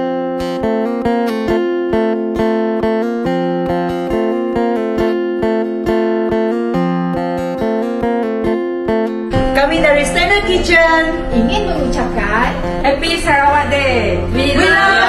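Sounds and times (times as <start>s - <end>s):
acoustic guitar music with beat: 0.0s - 15.0s.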